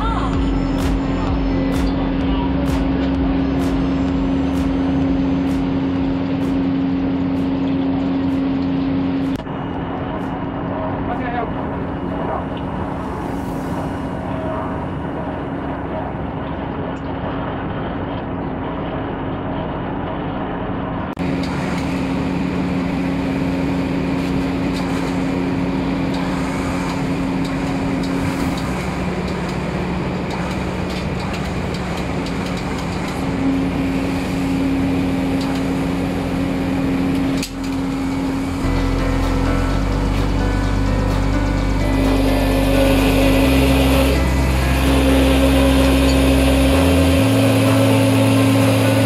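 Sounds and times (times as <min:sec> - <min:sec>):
ship machinery hum: 0:00.0 - 0:49.0.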